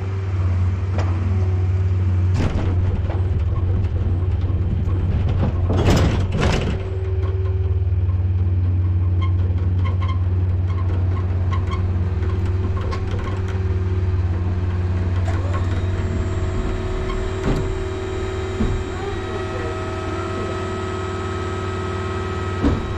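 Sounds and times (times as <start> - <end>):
vehicle engine humming: 0.0 - 22.9.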